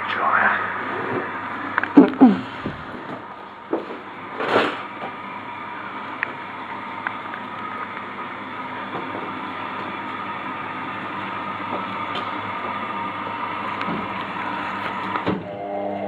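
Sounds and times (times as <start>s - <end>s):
laundry machines running: 0.0s - 16.0s.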